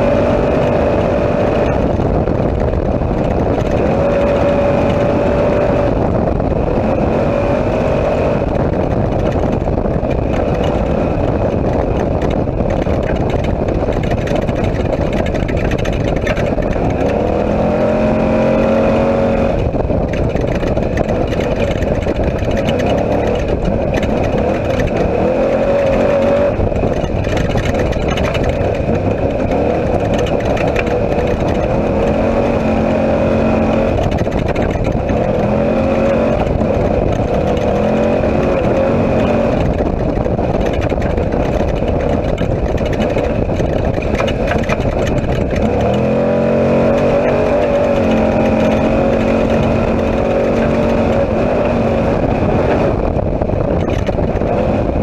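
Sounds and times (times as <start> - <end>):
race vehicle engine revving: 0.0 - 55.0.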